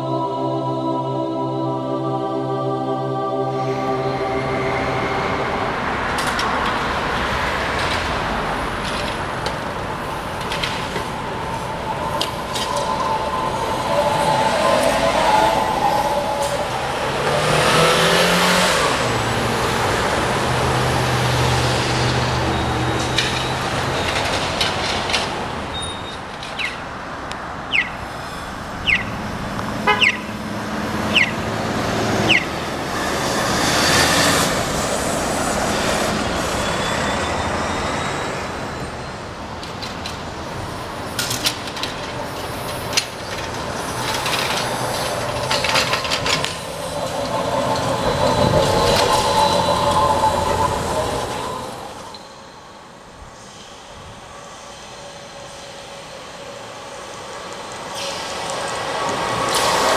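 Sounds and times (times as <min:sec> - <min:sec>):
electric trolleybus passing: 0:00.0 - 0:59.9
road traffic passing: 0:00.0 - 0:59.9.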